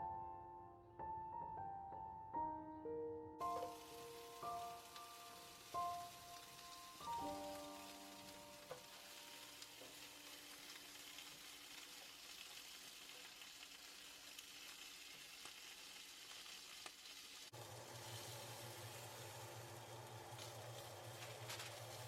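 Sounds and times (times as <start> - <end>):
food sizzling in a skillet: 3.4 - 22.0.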